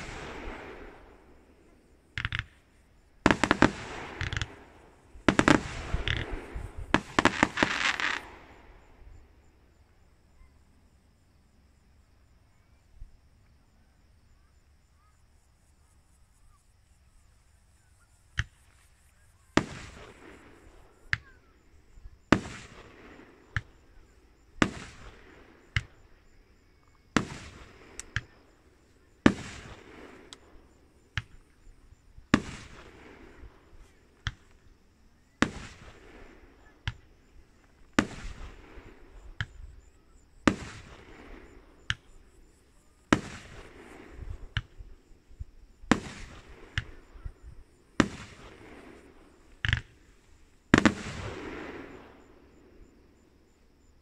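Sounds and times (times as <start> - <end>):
fireworks bangs with rumbling echo: 0.0 - 9.3, 18.3 - 52.4
small fireworks pops: 0.0 - 10.5, 15.6 - 53.0.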